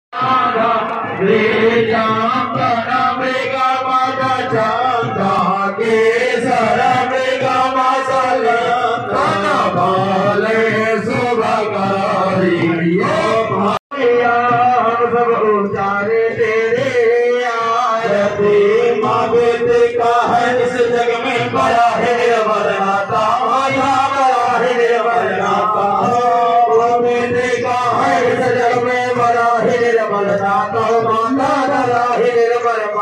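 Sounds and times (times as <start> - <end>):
man singing into a microphone: 0.1 - 33.0
men singing a hymn: 0.2 - 33.0.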